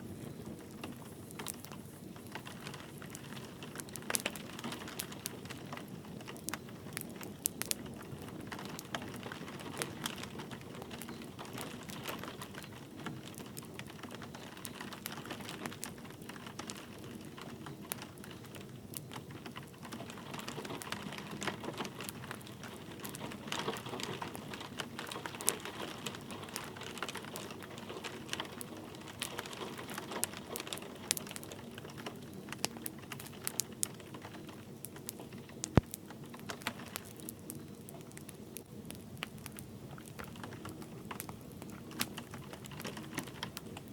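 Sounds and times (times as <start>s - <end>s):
light rain patter: 0.0s - 43.9s
wood fire crackling and popping: 0.0s - 43.9s.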